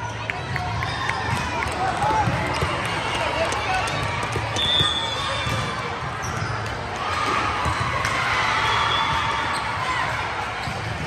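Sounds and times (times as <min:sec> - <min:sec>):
spectators cheering and chatting: 0:00.0 - 0:11.0
volleyballs smacking and bouncing: 0:00.5 - 0:11.0.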